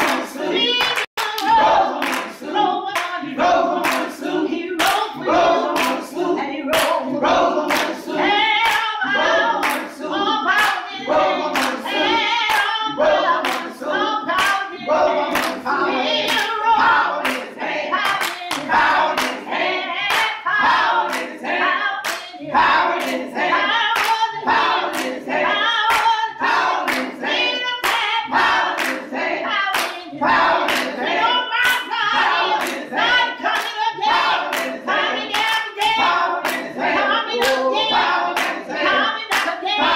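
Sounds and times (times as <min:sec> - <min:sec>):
group singing a gospel song: 0:00.0 - 0:39.9
hand-clapping on the beat: 0:00.0 - 0:39.9.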